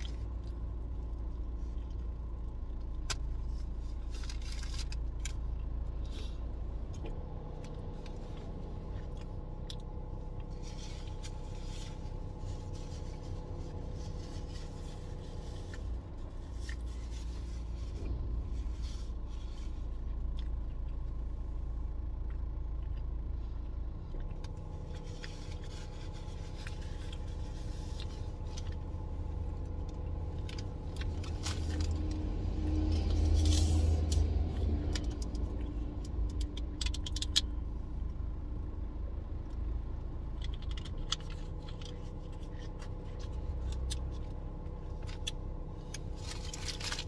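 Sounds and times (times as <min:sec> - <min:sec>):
car cabin hum: 0:00.0 - 0:47.0.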